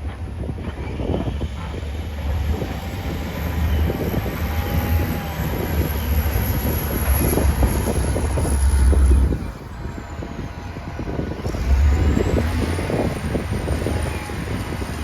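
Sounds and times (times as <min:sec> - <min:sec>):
diesel engine rumbling under load: 0:00.0 - 0:15.0.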